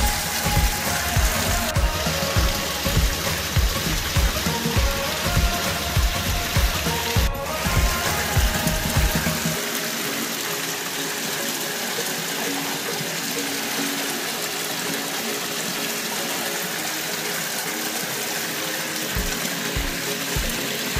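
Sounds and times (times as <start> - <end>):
background music: 0.0 - 20.9
indoor waterfall splashing: 0.0 - 20.9.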